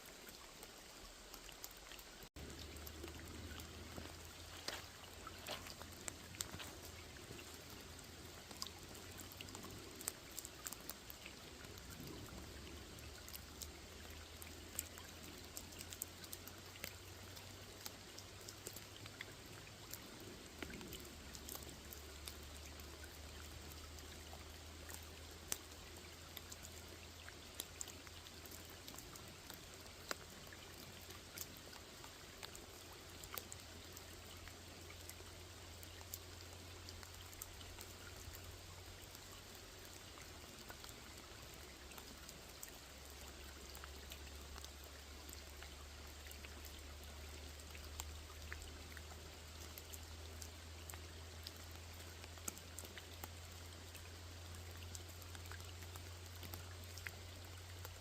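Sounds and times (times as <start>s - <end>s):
low steady hum: 0.0s - 58.0s
rain on a lake: 0.0s - 58.0s.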